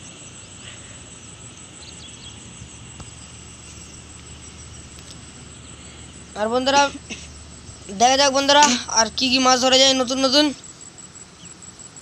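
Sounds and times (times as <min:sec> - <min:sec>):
insects droning: 0:00.0 - 0:12.0
low outdoor rumble: 0:00.0 - 0:12.0.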